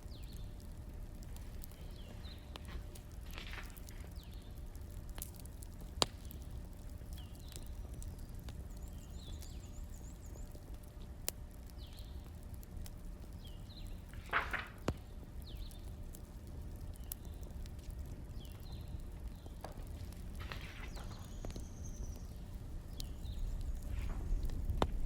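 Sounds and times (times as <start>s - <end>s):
fire crackling pops: 0.0s - 25.0s
wood fire rumbling: 0.0s - 25.0s.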